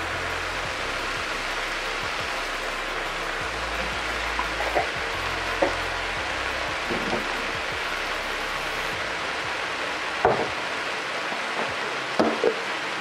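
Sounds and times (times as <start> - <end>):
food sizzling in a skillet: 0.0 - 13.0.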